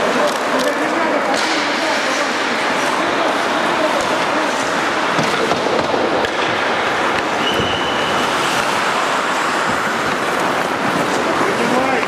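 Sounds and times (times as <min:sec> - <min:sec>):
skates scraping on ice: 0:00.0 - 0:12.0
sticks and puck clacking: 0:00.0 - 0:12.0.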